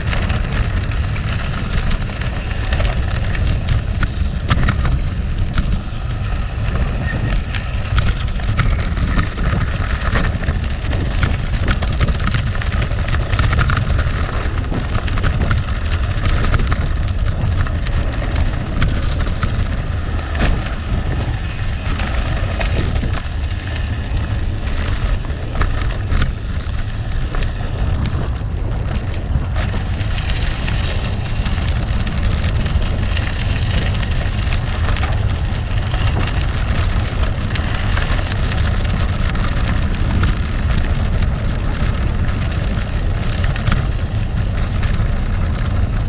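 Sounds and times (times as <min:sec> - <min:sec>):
bike tyres crunching gravel: 0:00.0 - 0:46.0
wind on microphone: 0:00.0 - 0:46.0
stones clicking and rattling: 0:00.3 - 0:46.0.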